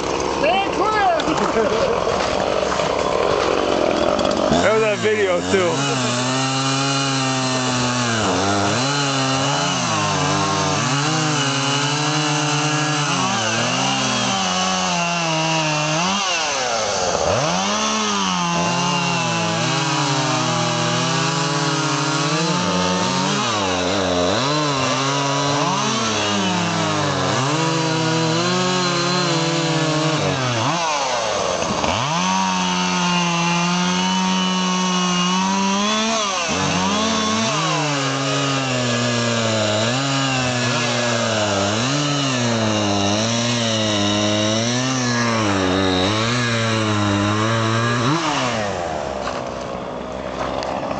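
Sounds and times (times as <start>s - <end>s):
chainsaws revving and cutting: 0.0s - 50.9s.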